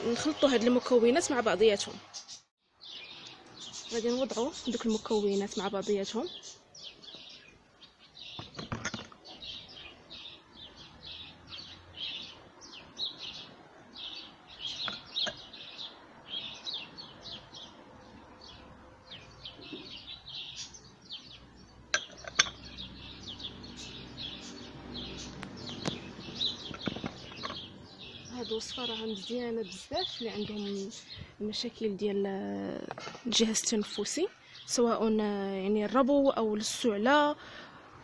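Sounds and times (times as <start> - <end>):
songbirds chirping and twittering: 0.0 - 38.0.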